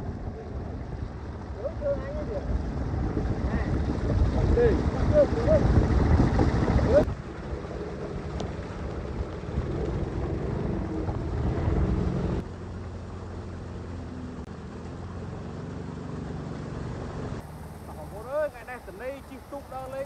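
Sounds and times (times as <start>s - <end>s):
outboard motor running: 0.0s - 20.0s
water rushing along hull: 0.0s - 20.0s.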